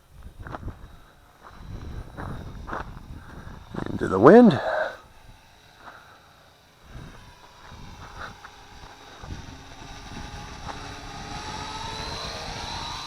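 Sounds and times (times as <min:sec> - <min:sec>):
wind buffeting microphone: 0:00.0 - 0:04.4, 0:06.8 - 0:13.0
quadcopter motors whining: 0:00.0 - 0:13.0.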